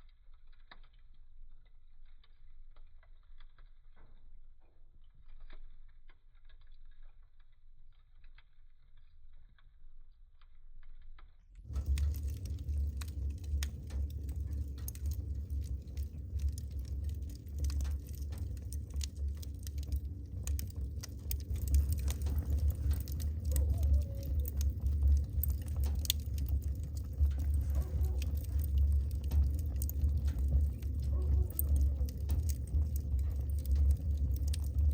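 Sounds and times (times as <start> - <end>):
low steady rumble: 0.0 - 34.9
wood fire crackling: 0.0 - 34.9.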